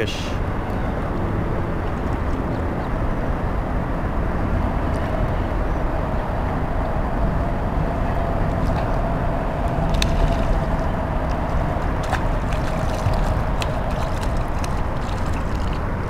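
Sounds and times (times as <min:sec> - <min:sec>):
distant engines rumbling: 0:00.0 - 0:16.0
thin steady hum: 0:00.0 - 0:16.0.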